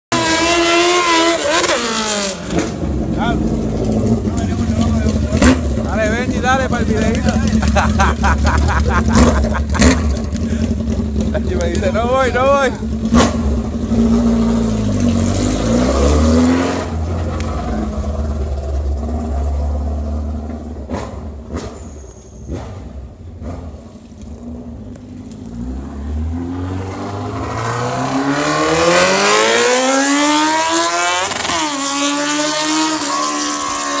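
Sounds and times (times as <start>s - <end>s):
motorcycle engine accelerating: 0.1s - 34.0s.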